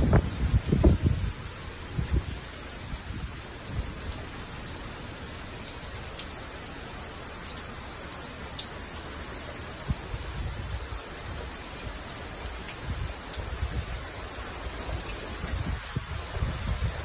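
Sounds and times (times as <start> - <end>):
rain behind window glass: 0.0 - 17.0.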